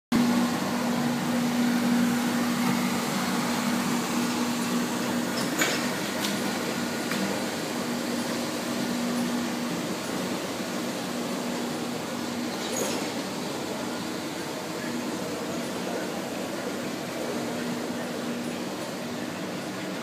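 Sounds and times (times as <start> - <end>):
mechanical hum: 0.1 - 20.0.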